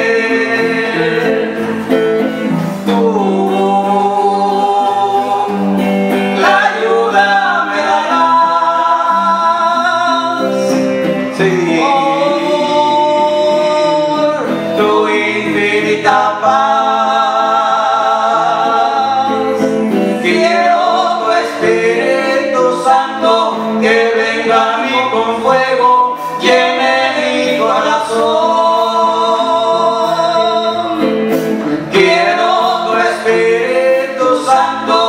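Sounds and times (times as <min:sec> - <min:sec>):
electric bass: 0:00.0 - 0:35.0
electric guitar: 0:00.0 - 0:35.0
voices singing worship song: 0:00.0 - 0:35.0.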